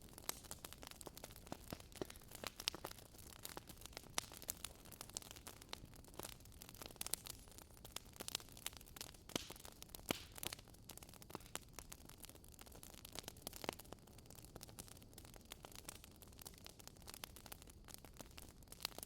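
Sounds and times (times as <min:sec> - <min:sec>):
soft steady hiss: 0:00.0 - 0:19.0
wood fire crackling: 0:00.0 - 0:19.0.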